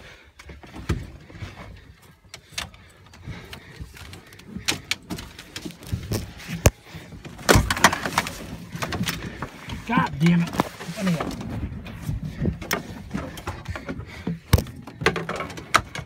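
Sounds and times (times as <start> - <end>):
gear knocking and rattling: 0.4 - 16.0.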